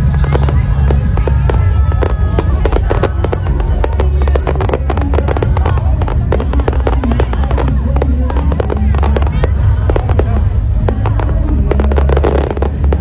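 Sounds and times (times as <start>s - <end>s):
deep rumble: 0.0s - 13.0s
fireworks bangs and crackles: 0.0s - 13.0s
music playing: 0.0s - 13.0s.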